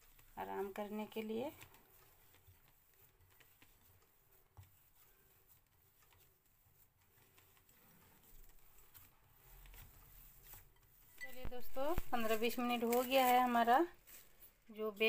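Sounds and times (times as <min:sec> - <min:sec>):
hands kneading dough in bowl: 0:00.0 - 0:15.0.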